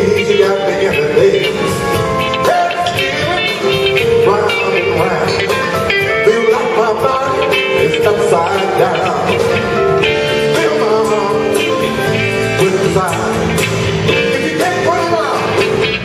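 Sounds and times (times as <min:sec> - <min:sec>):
guitar bent wavering notes: 0:00.0 - 0:16.0
soul blues band playing: 0:00.0 - 0:16.0.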